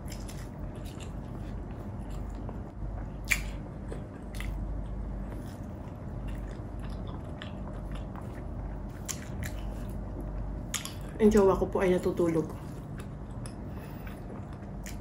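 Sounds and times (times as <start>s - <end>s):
chewing and biting food: 0.0s - 11.2s, 12.6s - 15.0s
steady low hum: 0.0s - 15.0s.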